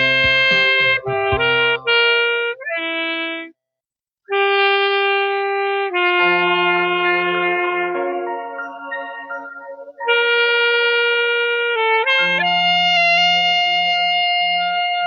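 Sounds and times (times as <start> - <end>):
backing track: 0.0 - 3.4, 4.3 - 14.9
saxophone melody: 0.0 - 3.6, 4.3 - 15.0.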